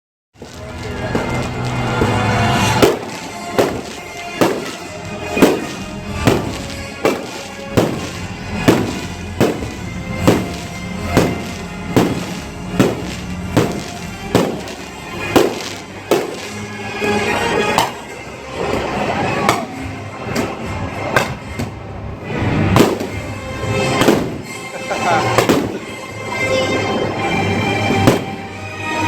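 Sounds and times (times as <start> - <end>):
fireworks bangs: 0.4 - 28.6
music playing: 0.4 - 29.0.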